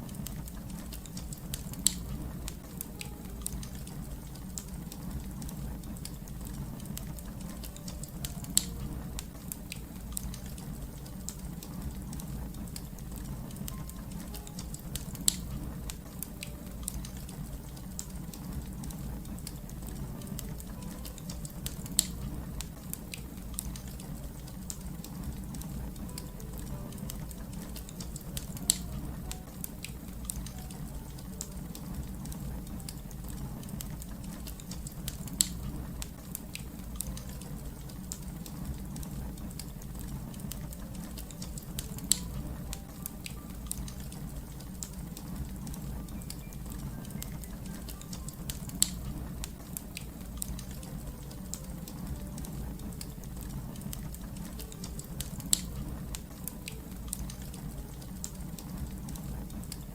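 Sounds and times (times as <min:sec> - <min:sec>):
low rumble of burning: 0:00.0 - 0:59.9
wood fire crackling: 0:00.0 - 0:59.9
sharp pops of fire: 0:00.2 - 0:33.0, 0:33.7 - 0:45.9, 0:47.1 - 0:50.7.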